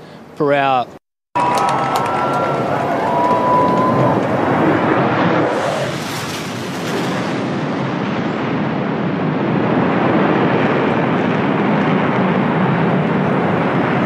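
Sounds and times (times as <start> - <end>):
jet afterburner roar: 1.4 - 14.0.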